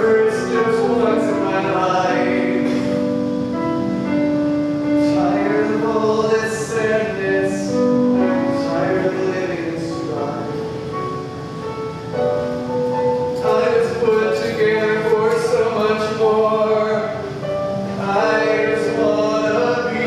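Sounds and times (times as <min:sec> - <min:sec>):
keyboard accompaniment: 0:00.0 - 0:20.0.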